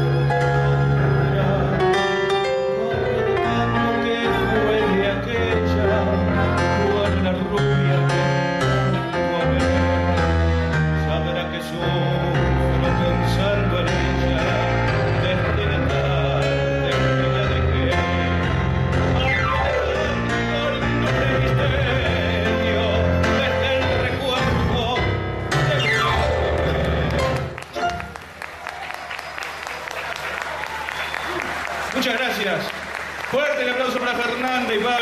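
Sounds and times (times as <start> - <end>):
tango orchestra playing: 0.0 - 28.3.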